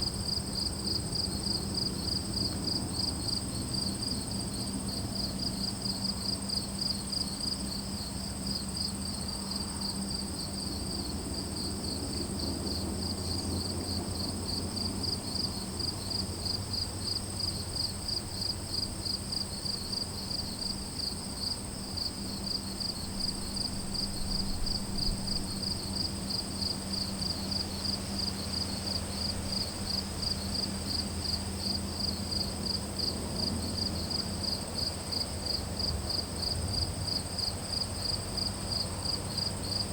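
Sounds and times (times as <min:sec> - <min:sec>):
crickets chirping: 0:00.0 - 0:39.9
high-pitched insect trill: 0:00.2 - 0:39.9.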